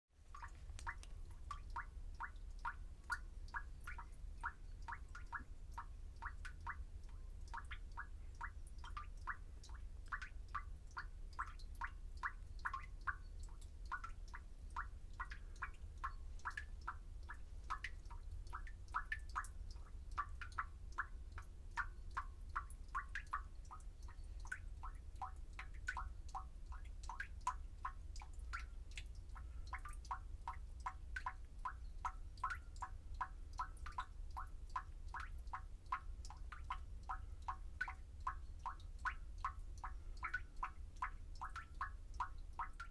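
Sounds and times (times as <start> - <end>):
water dripping: 0.2 - 42.9.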